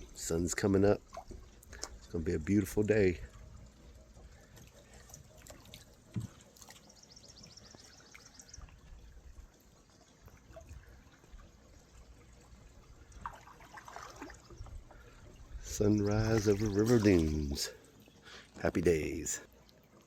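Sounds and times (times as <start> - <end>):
faint trickling water: 0.0 - 20.0.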